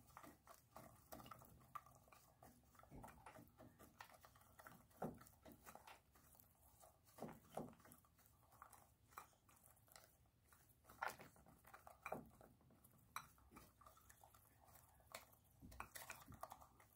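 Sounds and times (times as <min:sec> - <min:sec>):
chickens pecking at a bowl: 0:00.0 - 0:16.9.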